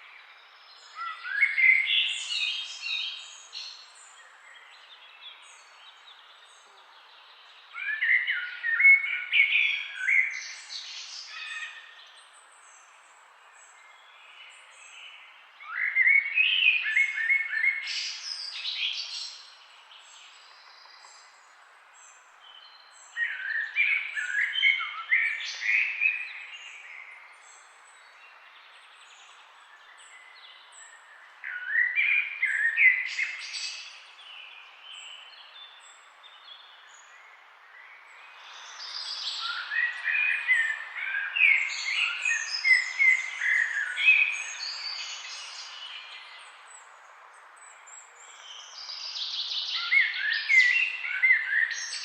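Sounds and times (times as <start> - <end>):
background hiss: 0.0 - 52.0.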